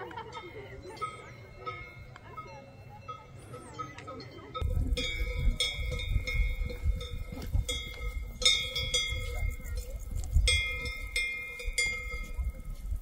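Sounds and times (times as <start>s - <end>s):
cowbells clanking: 0.0s - 13.0s.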